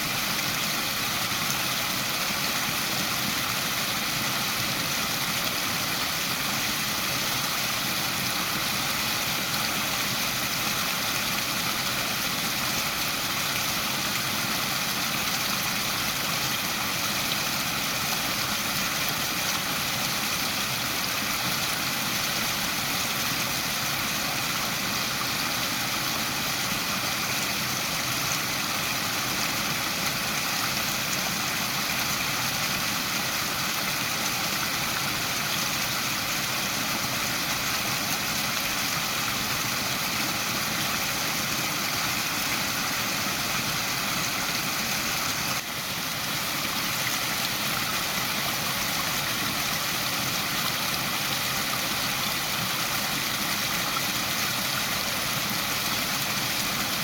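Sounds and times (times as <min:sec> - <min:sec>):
waterfall: 0:00.0 - 0:57.0.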